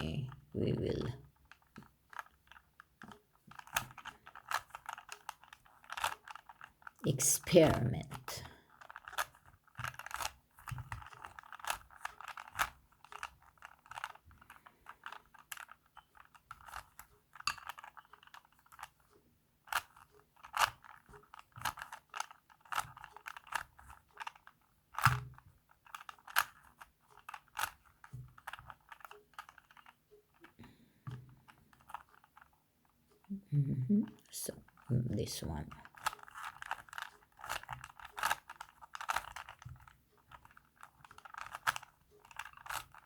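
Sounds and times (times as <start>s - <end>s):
puzzle cube clicking and rattling: 0.0s - 43.0s.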